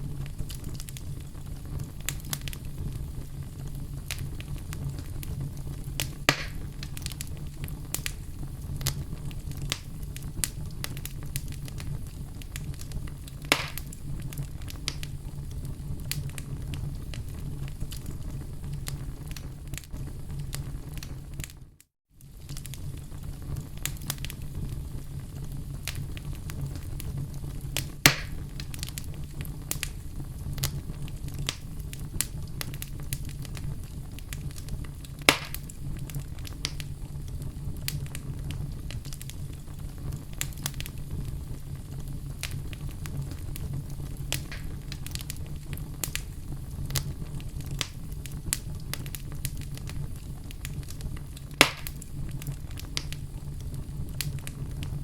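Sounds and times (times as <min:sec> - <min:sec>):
campfire crackling: 0:00.0 - 0:55.0
loud campfire pops: 0:00.0 - 0:55.0.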